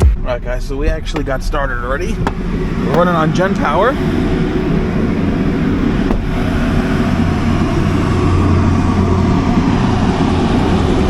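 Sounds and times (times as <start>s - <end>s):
generator engine droning: 0.0s - 11.0s.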